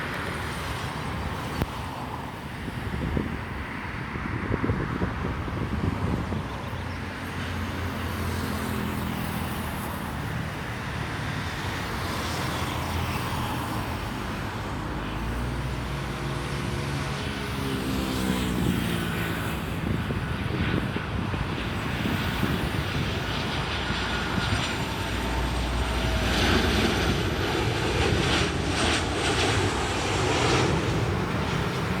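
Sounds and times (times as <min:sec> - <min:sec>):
jet engines passing by: 0:00.0 - 0:32.0.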